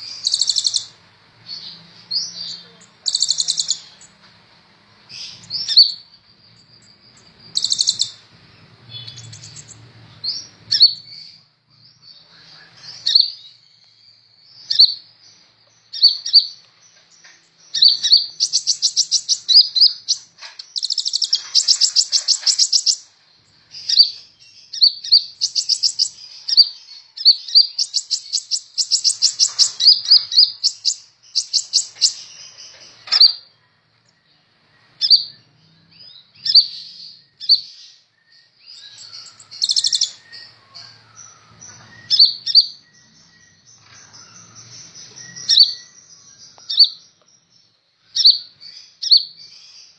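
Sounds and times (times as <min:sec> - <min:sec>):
bird singing high chirps: 0:00.0 - 0:04.3, 0:04.9 - 0:49.9.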